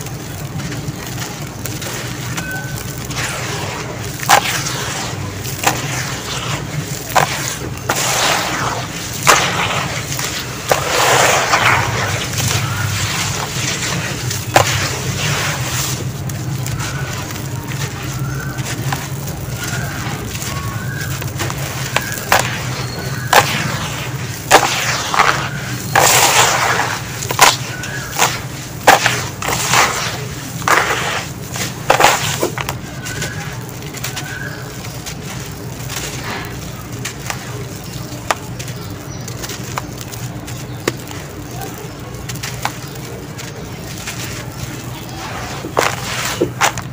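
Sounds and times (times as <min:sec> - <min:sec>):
hands crunching sand and gravel: 0:00.0 - 0:46.9.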